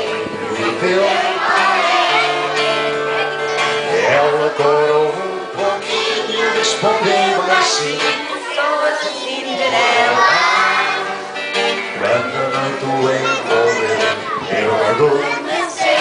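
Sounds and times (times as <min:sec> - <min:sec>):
acoustic guitar: 0:00.0 - 0:16.0
children singing: 0:00.0 - 0:16.0.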